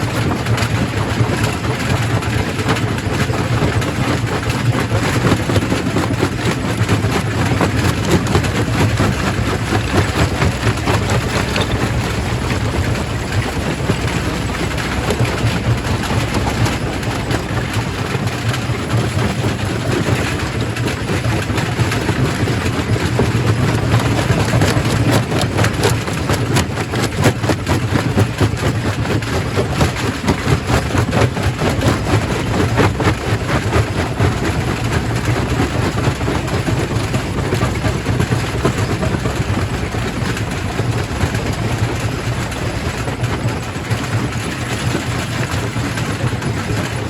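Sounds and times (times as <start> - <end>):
low machinery drone: 0.0 - 47.0.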